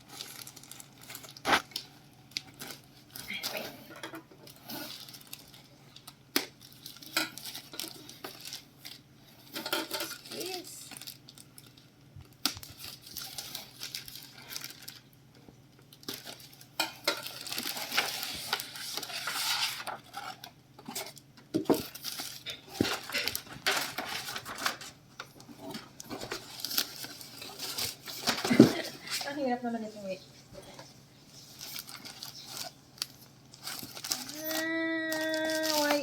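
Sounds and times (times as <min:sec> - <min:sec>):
packaging crinkling and rustling: 0:00.0 - 0:03.7, 0:04.3 - 0:29.5, 0:30.8 - 0:36.0.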